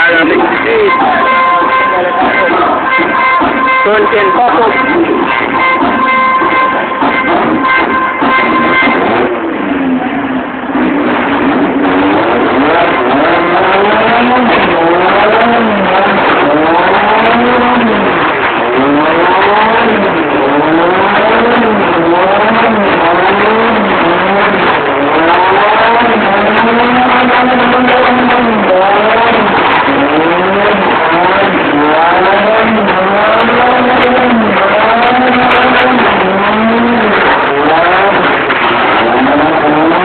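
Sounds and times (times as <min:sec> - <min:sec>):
car engine revving hard: 0:00.0 - 0:40.0.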